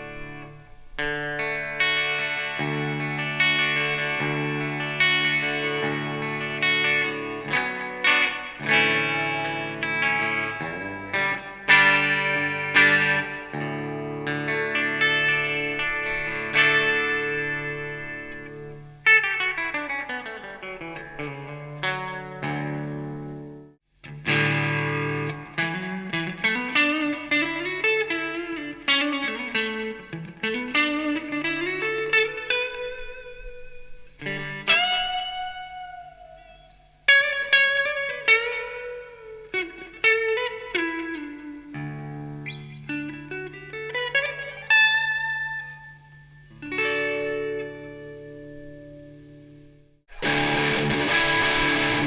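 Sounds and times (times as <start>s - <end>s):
electric guitar chords and bends: 0.0s - 52.0s.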